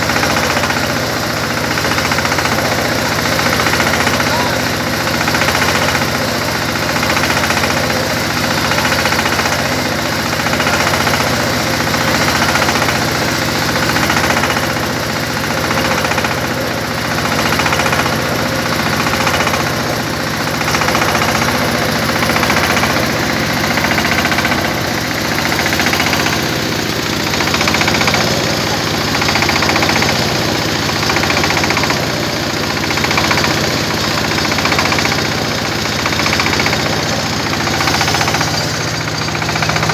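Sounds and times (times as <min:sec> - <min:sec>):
baler-wrapper machine engine running: 0:00.0 - 0:39.9.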